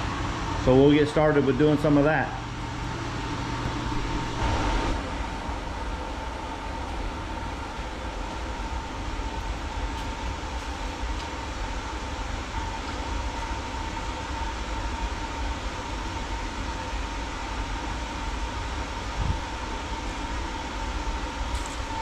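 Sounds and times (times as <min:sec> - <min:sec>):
mechanical whirring with high whine: 0:00.0 - 0:22.0.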